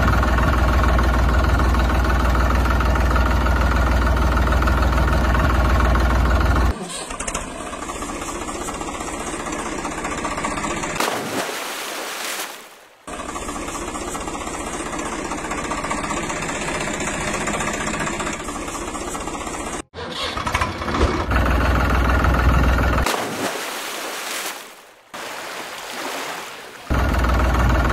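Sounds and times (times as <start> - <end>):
engine chugging: 0.0 - 11.2, 13.0 - 23.2, 26.9 - 27.9.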